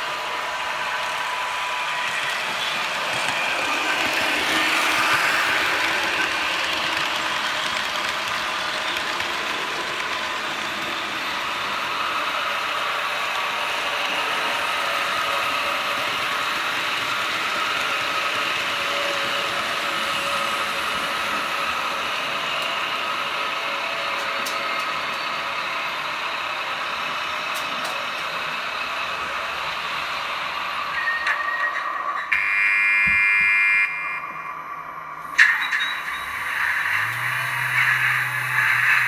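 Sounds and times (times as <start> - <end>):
model trains rolling whir: 0.0 - 32.4, 34.4 - 39.0.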